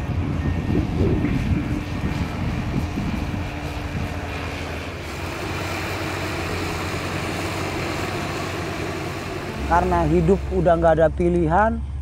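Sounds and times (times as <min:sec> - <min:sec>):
bulldozer diesel engine running: 0:00.0 - 0:12.0
higher hum: 0:00.0 - 0:12.0.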